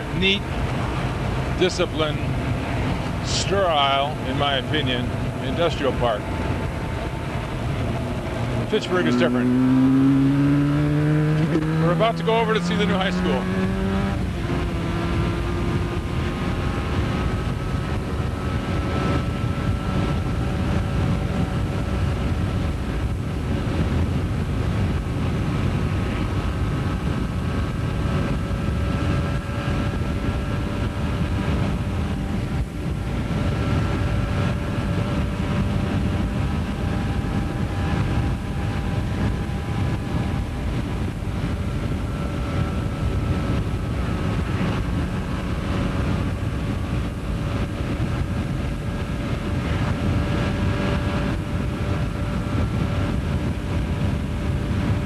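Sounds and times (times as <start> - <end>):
motorcycle engine rumble: 0.0 - 55.0
wind noise on microphone: 6.1 - 8.7, 13.0 - 55.0.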